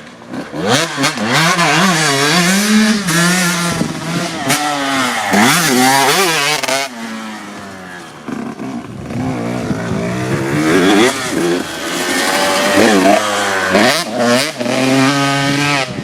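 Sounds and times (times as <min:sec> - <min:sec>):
motocross engine revving: 0:00.2 - 0:16.0.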